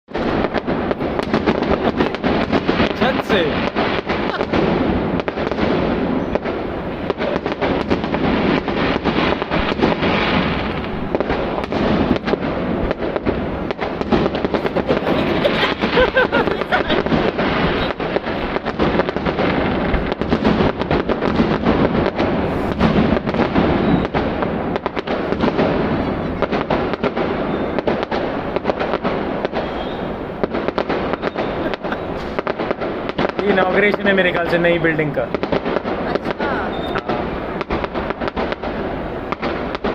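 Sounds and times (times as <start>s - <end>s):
fireworks crackling pops: 0.1s - 39.9s.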